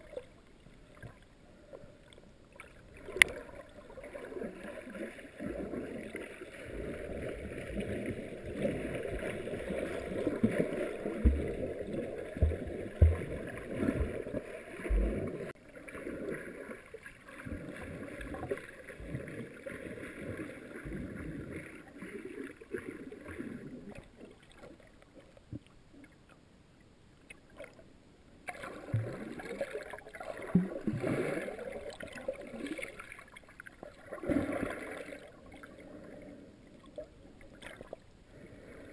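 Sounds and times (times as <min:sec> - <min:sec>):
underwater swishing and gurgling: 0:00.0 - 0:38.9.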